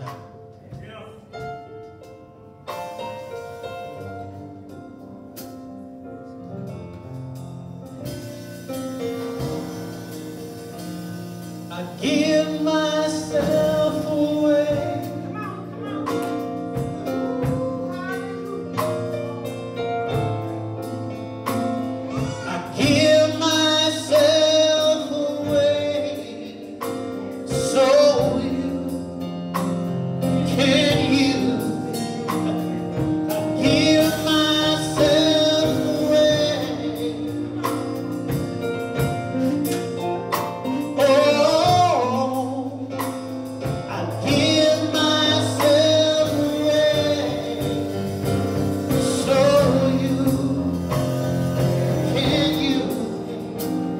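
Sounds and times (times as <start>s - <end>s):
instrumental accompaniment: 0.0s - 53.9s
voices singing gospel: 8.0s - 53.9s.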